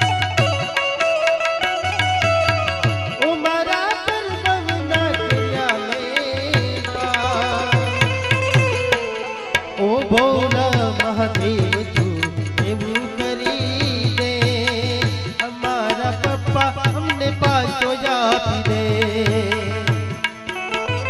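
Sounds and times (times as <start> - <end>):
harmonium: 0.0 - 21.0
tabla strokes: 0.0 - 21.0.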